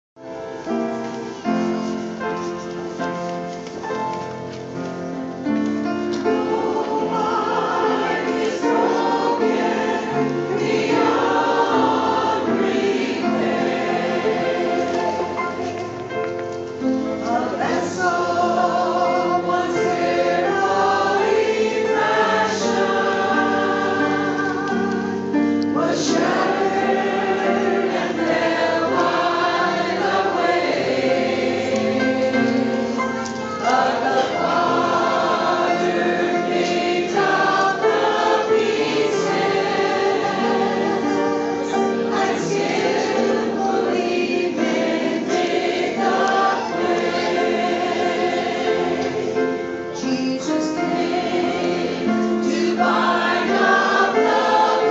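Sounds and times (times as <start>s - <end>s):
choir singing gospel: 5.4s - 54.9s.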